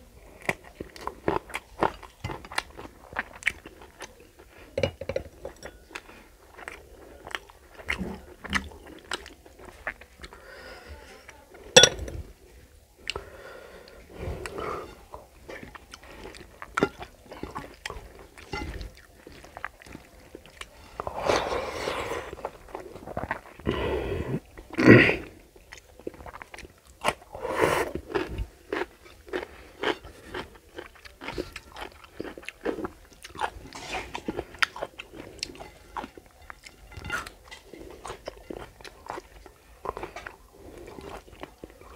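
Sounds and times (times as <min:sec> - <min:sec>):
person chewing food: 0:00.4 - 0:10.4, 0:15.5 - 0:24.0, 0:25.6 - 0:41.9.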